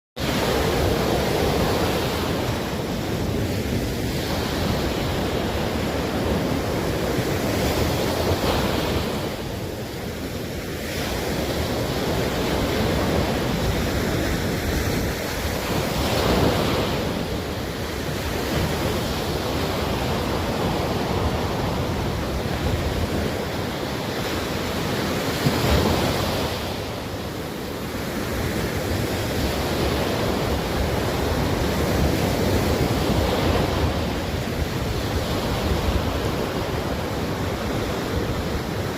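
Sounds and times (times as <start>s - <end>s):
waves breaking on shore: 0.2s - 38.9s
wind on microphone: 0.2s - 38.9s.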